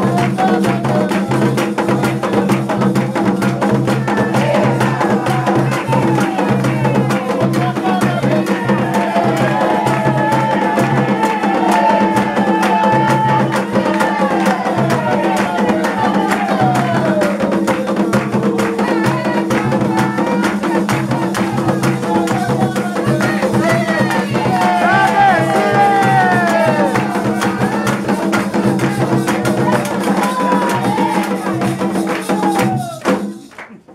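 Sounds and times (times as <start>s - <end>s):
sung chant: 0.0s - 33.3s
drums beating: 0.0s - 33.9s.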